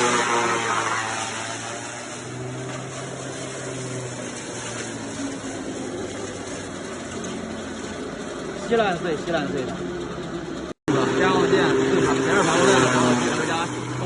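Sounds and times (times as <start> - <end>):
forage chopper humming: 0.0 - 14.0.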